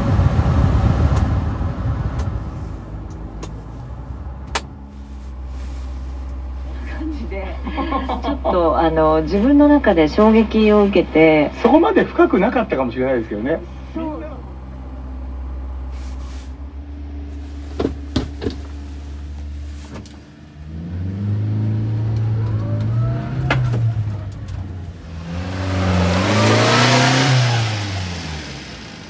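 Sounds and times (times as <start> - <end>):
small truck engine idling and revving: 0.0 - 29.0.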